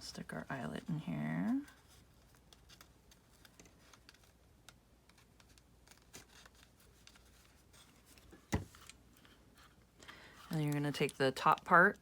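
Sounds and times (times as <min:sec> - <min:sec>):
paper rustling: 0:01.5 - 0:11.2.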